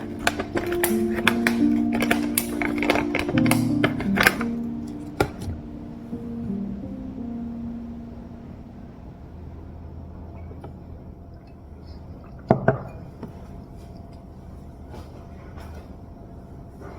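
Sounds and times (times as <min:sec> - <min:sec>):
low room hum: 0:00.0 - 0:16.9.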